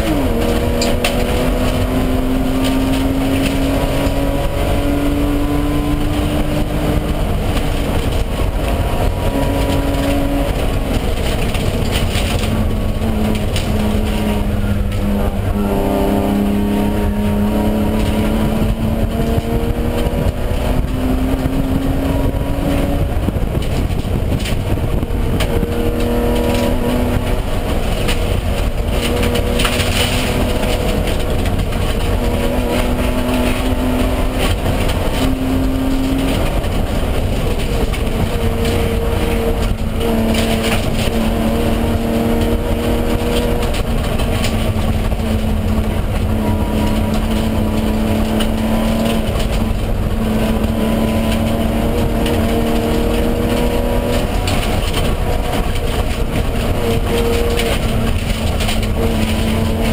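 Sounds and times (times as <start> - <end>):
race car engine revving: 0.0 - 59.9
road noise rushing: 0.0 - 59.9.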